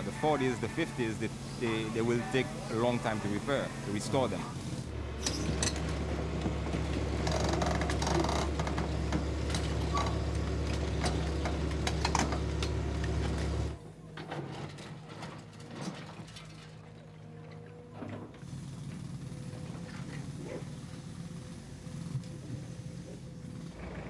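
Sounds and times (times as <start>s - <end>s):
excavator diesel engine running: 0.0s - 15.8s, 17.2s - 24.0s.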